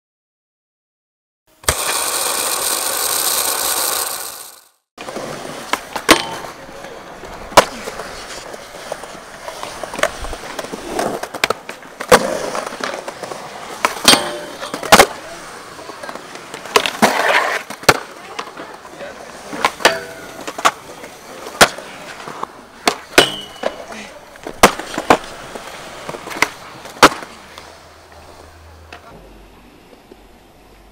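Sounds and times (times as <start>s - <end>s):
skateboard clacking: 1.6s - 29.2s
skateboard grinding on metal rail: 1.6s - 29.2s
skateboard wheels rolling on concrete: 1.6s - 30.9s.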